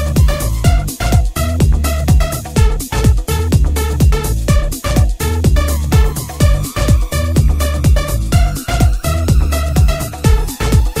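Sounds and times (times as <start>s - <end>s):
kick drum: 0.0s - 11.0s
rhythmic synth chord stabs: 0.0s - 11.0s.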